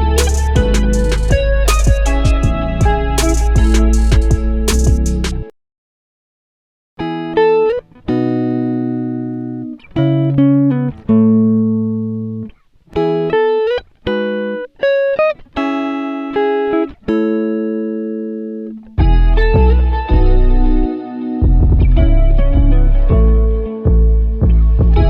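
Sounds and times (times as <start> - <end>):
plucked guitar chords: 0.0 - 5.5, 7.0 - 25.0.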